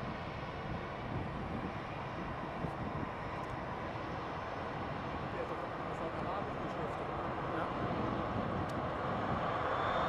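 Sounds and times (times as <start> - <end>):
jet airliner rolling on runway: 0.0 - 10.0.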